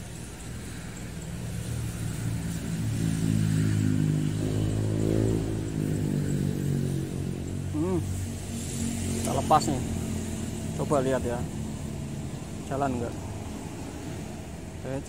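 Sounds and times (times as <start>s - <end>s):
vehicle engine passing: 0.6s - 15.0s.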